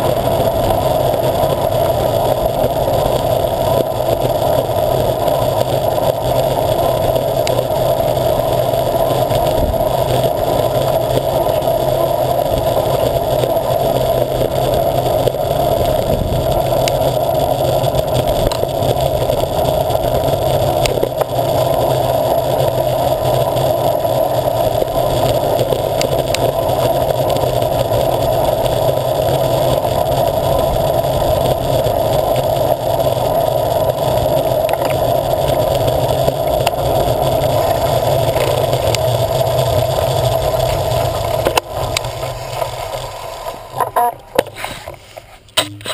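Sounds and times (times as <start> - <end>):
wind on microphone: 0.0 - 42.9
bicycle tyre hum on tarmac: 0.0 - 45.6.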